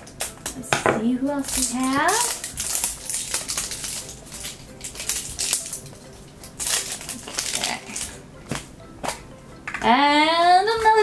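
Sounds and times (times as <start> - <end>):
plastic crinkling and crackling: 1.4 - 11.0.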